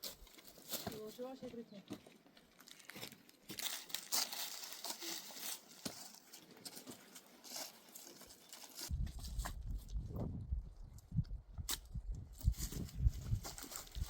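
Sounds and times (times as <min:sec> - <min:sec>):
rustling and crinkling: 0:00.0 - 0:10.0, 0:11.7 - 0:14.0.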